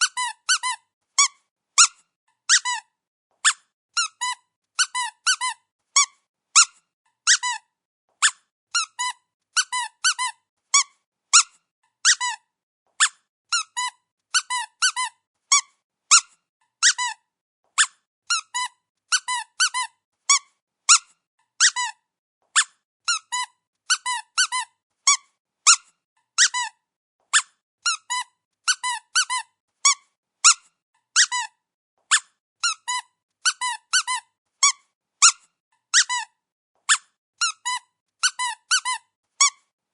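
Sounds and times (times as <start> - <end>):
squeaky dog toy squeaking: 0.0 - 39.7.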